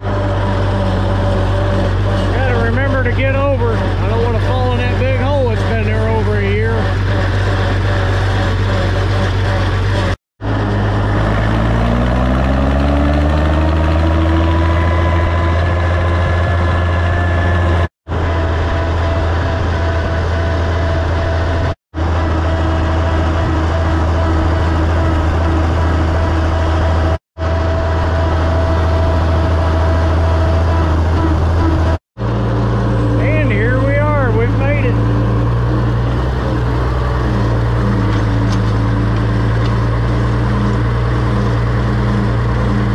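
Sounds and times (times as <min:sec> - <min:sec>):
diesel tractor engine droning: 0:00.0 - 0:42.9.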